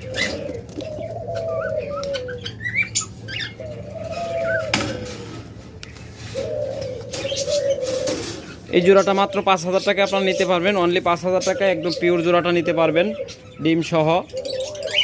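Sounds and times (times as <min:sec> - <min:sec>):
cage birds chirping: 0:00.0 - 0:15.0
doves cooing: 0:00.0 - 0:15.0.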